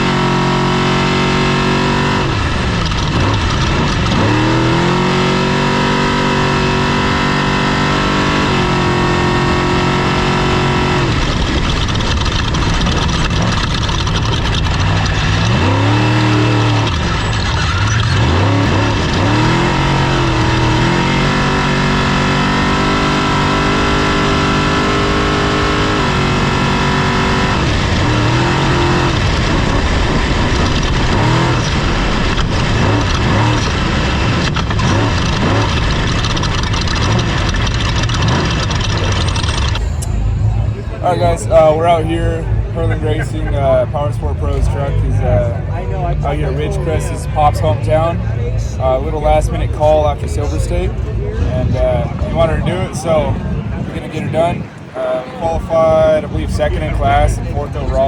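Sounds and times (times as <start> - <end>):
race vehicle engine revving: 0.0 - 58.0.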